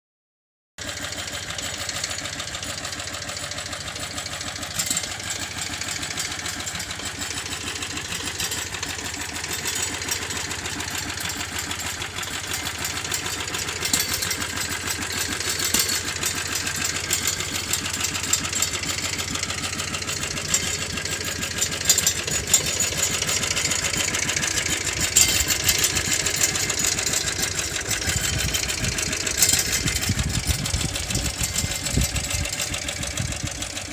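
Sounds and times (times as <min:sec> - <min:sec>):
tractor engine idling: 0:00.8 - 0:33.9.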